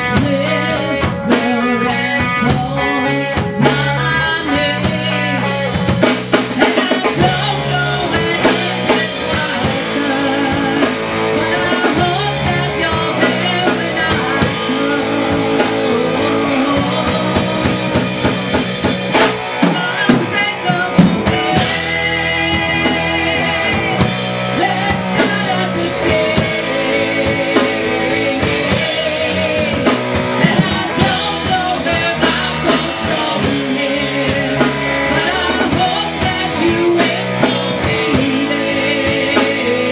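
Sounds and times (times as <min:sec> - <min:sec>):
drum kit: 0:00.0 - 0:39.9
electric guitar: 0:00.0 - 0:39.9
woman singing: 0:00.0 - 0:39.9.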